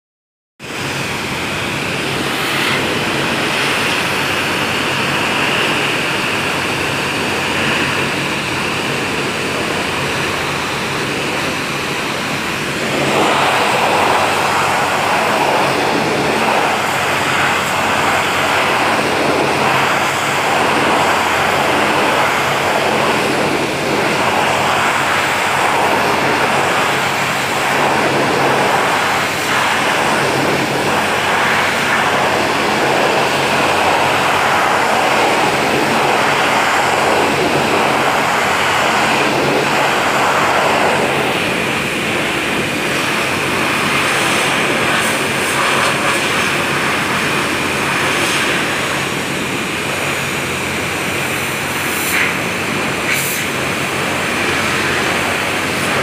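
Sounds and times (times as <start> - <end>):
pressure washer spray hissing: 0.8 - 56.0.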